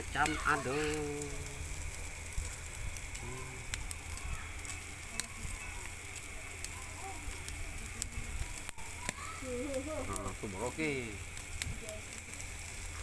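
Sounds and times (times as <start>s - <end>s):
barbecue grill sizzling: 0.0s - 13.0s
sharp crackles and pops: 0.0s - 13.0s.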